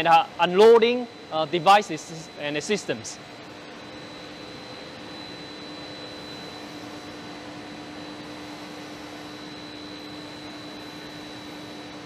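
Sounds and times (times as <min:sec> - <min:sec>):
faint high whine: 0:00.0 - 0:12.0
machine whirring: 0:00.0 - 0:12.0.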